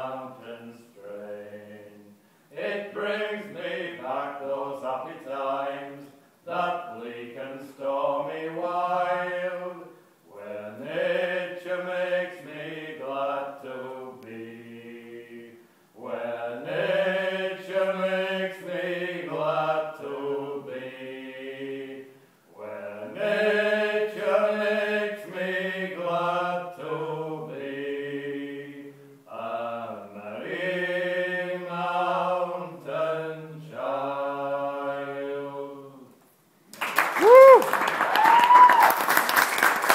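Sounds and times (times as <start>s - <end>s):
two men singing unaccompanied: 0.0s - 36.1s.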